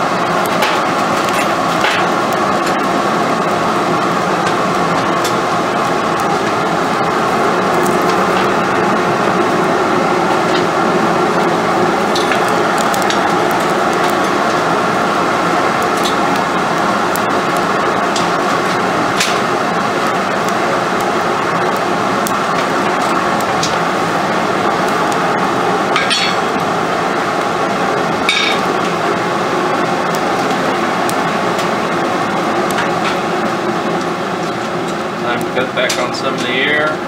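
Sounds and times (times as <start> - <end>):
forge fire and air rush: 0.0 - 37.0.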